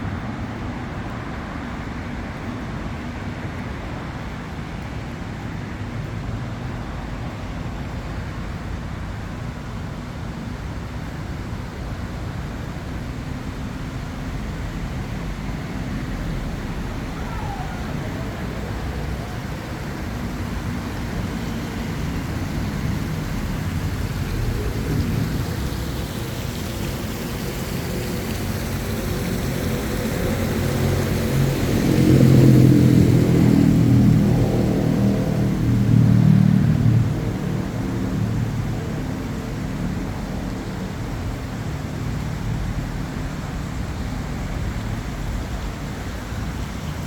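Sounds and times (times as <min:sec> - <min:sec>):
low rumble of traffic: 0:00.0 - 0:47.0.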